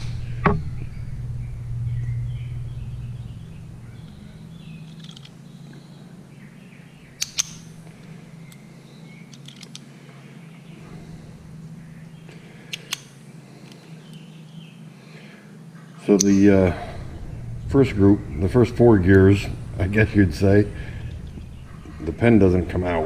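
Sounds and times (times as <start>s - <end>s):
faint bird chirps: 0.0s - 9.5s, 10.1s - 23.0s
steady low hum: 0.0s - 23.0s.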